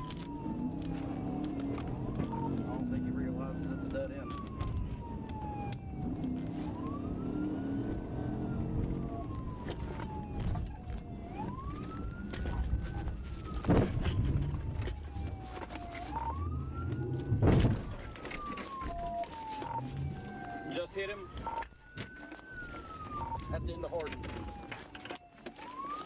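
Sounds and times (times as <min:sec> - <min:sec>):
engine and road rumble: 0:00.0 - 0:26.0
police siren wailing: 0:00.0 - 0:26.0.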